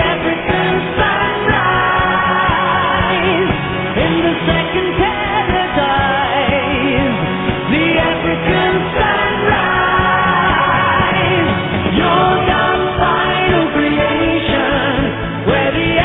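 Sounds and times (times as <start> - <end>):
pop song with singing voice: 0.0 - 16.0.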